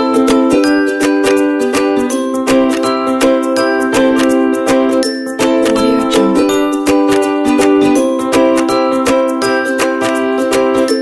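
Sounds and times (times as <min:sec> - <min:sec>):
plucked strings music with beat: 0:00.0 - 0:11.0.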